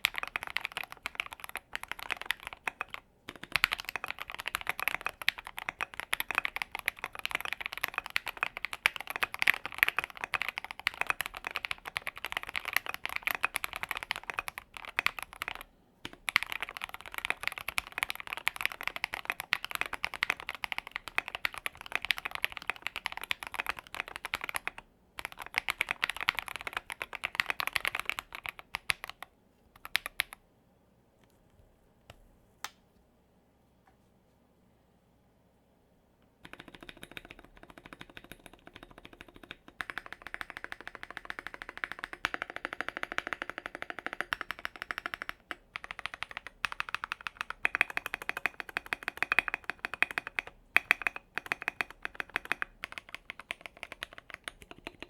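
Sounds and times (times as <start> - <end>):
mechanical keyboard typing: 0.0 - 30.4, 36.4 - 55.0.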